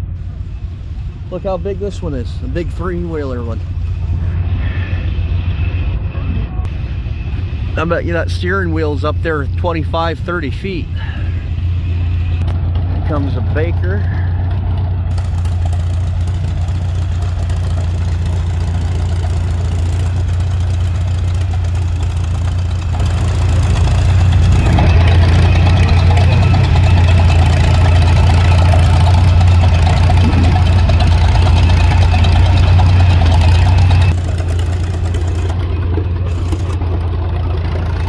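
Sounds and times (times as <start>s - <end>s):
heavy engine humming: 0.0s - 38.0s.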